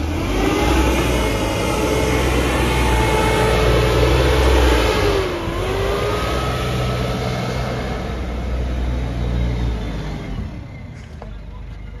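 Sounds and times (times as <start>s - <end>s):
diesel engine revving: 0.0s - 12.0s.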